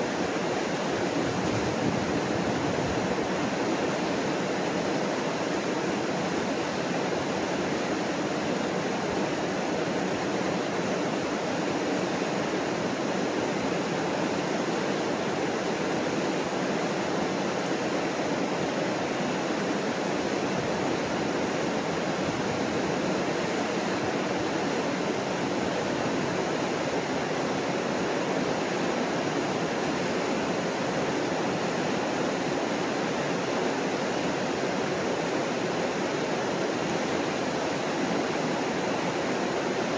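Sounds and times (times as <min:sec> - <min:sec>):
whitewater rushing over rapids: 0:00.0 - 0:39.9.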